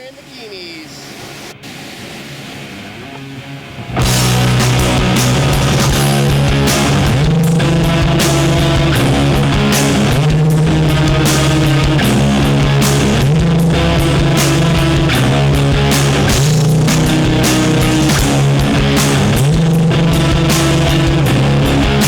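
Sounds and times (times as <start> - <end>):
distorted electric guitar: 0.0 - 22.0
bass guitar: 3.3 - 22.0
steady drum beat: 3.9 - 22.0.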